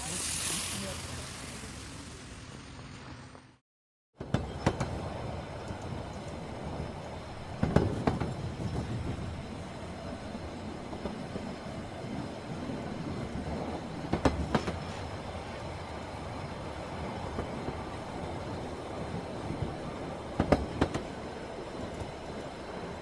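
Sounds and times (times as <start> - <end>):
electric train rumbling: 0.0 - 3.6, 4.2 - 23.0
wheels clacking over rail joints: 4.2 - 23.0.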